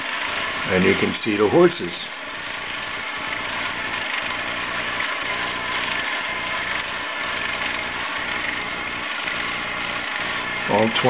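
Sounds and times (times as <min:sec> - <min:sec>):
toy motor and gears whirring: 0:00.0 - 0:11.0.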